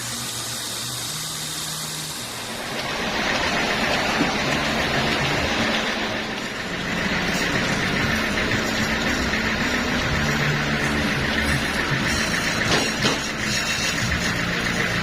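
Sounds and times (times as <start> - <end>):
bandsaw sawmill running: 0.0 - 15.0.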